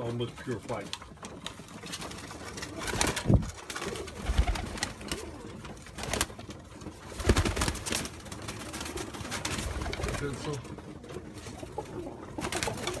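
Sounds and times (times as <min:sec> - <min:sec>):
pigeons cooing: 0:01.1 - 0:13.0.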